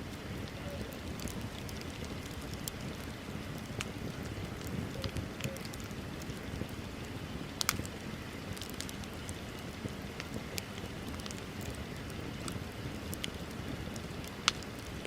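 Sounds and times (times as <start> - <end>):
bonfire flames rushing: 0.0 - 15.0
fire crackles and pops: 0.0 - 15.0.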